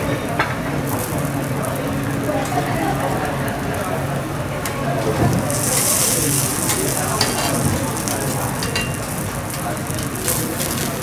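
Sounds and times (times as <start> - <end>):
egg sizzling on griddle: 0.0 - 11.0.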